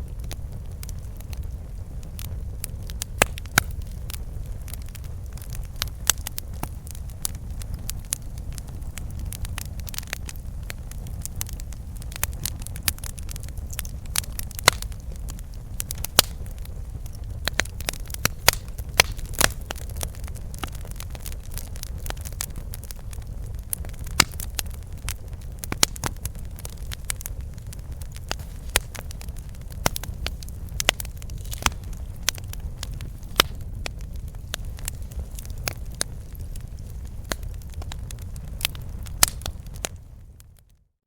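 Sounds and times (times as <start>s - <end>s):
burning wood crackling and popping: 0.0s - 40.8s
low rumble of flames: 0.0s - 41.0s.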